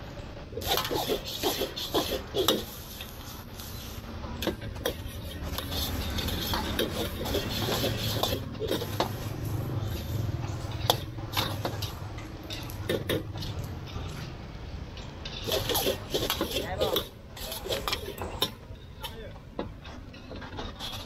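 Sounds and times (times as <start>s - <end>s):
gas burner roar: 0.0s - 18.8s
metal spatula scraping wok: 0.5s - 19.0s, 19.7s - 21.0s.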